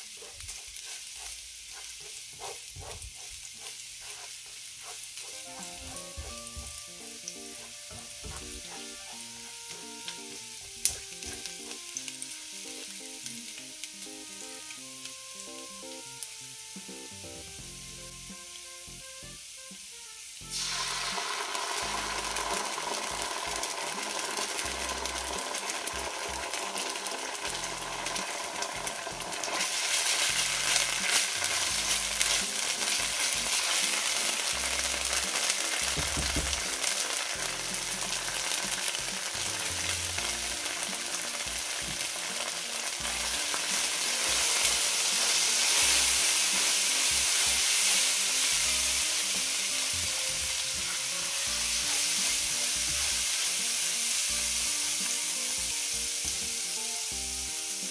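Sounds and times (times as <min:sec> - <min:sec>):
spatula stirring in pan: 0:00.0 - 0:13.4, 0:20.5 - 0:57.0
food sizzling in oil: 0:00.0 - 0:57.9.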